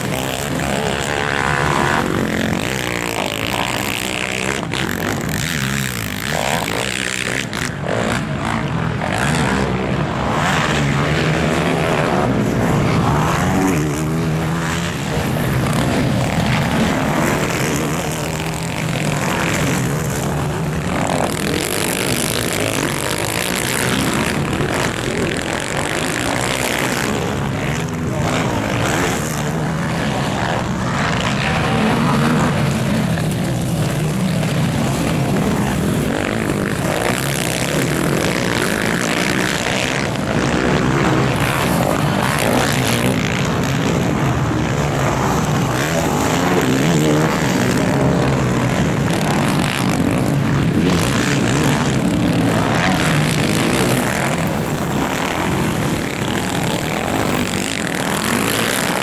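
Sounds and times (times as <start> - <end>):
quad bike engines revving: 0.0 - 59.0.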